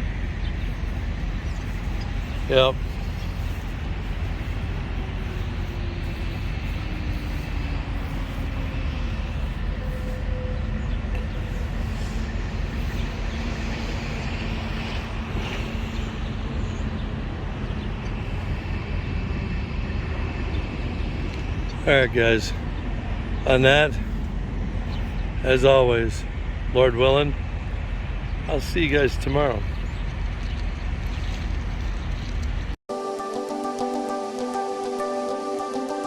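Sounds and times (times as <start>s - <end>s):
road traffic rumble: 0.0s - 32.8s.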